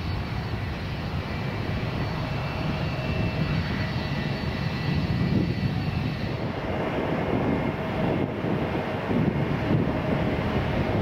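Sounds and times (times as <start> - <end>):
jet engines rumbling with whine: 0.0 - 11.0.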